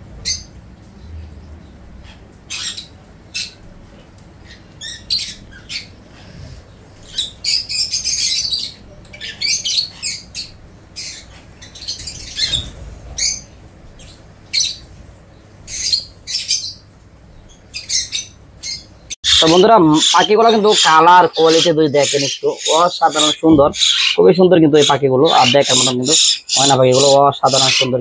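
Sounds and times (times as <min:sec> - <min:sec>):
bird chicks squawking: 0:00.0 - 0:28.0.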